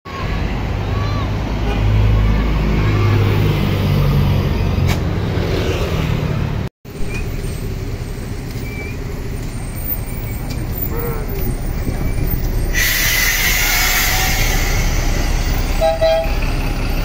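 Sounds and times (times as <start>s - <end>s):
road traffic: 0.1s - 17.0s
coach diesel engine passing: 1.4s - 17.0s.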